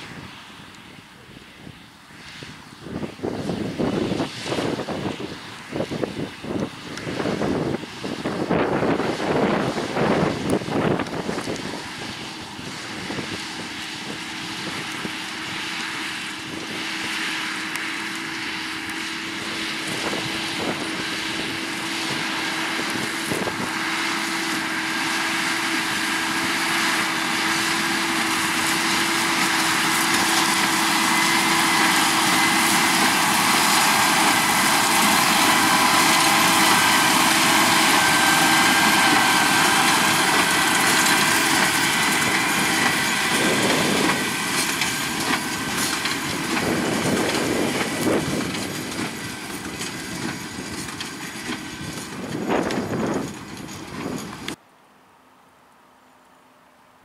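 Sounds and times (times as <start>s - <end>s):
tractor diesel engine running: 0.0s - 54.6s.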